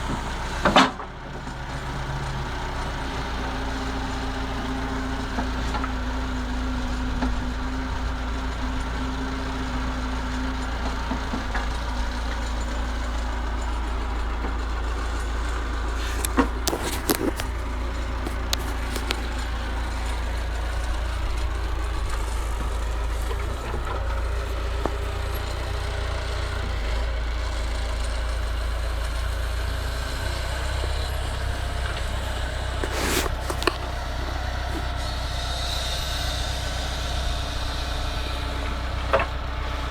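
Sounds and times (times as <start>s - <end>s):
backhoe loader diesel engine: 0.0s - 39.9s.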